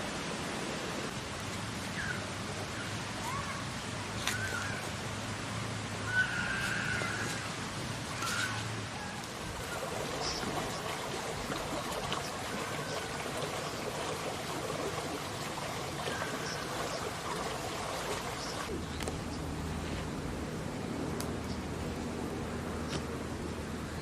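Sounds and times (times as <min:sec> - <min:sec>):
running water flowing: 0:00.0 - 0:24.0.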